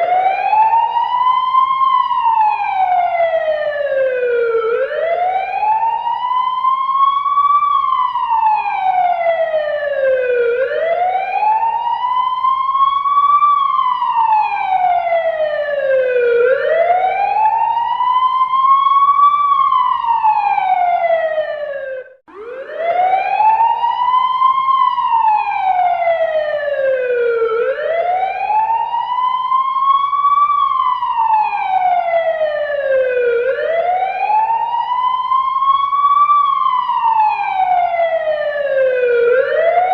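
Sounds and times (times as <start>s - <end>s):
fire truck siren wailing: 0.0s - 39.9s.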